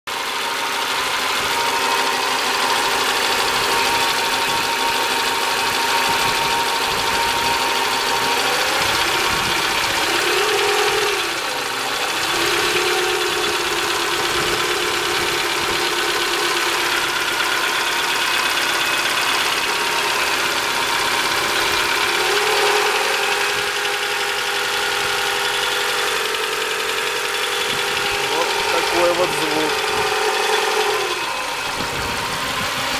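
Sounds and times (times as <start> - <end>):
car engine running with knock: 0.1 - 32.9.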